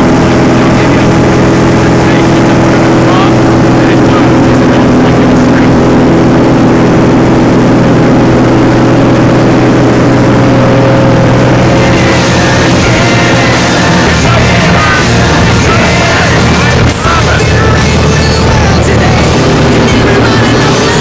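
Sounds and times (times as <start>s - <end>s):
rock music: 0.0s - 21.0s
small plane engine droning: 0.0s - 21.0s.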